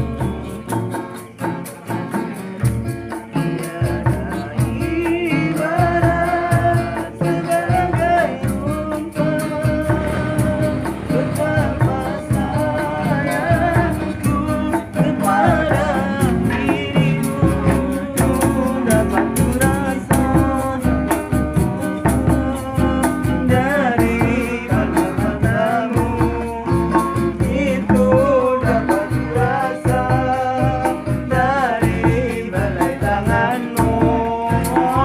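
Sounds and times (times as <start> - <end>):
acoustic guitars strummed: 0.0 - 35.0
person singing: 0.0 - 35.0.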